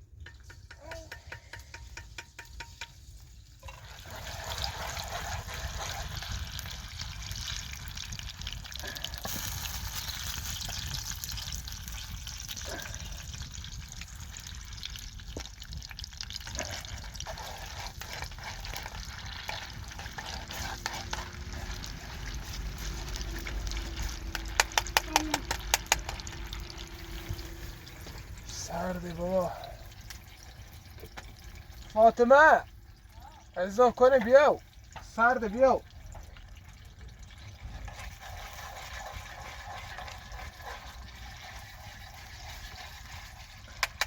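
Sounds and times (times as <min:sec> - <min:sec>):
food sizzling in a pan: 0:01.5 - 0:31.9, 0:36.0 - 0:44.0.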